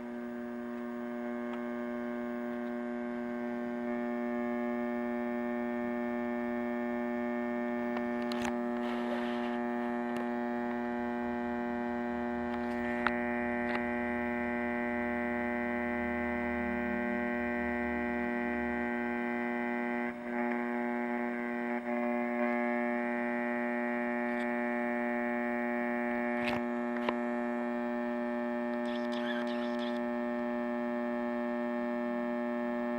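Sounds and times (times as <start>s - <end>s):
buzzy mains hum from radio: 0.0s - 32.9s.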